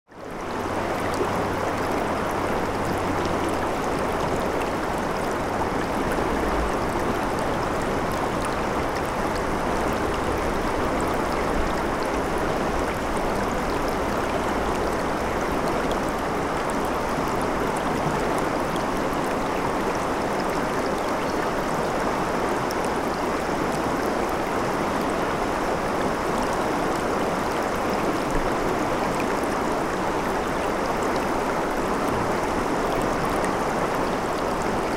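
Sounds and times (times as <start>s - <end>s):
river rushing over rocks: 0.2s - 34.9s.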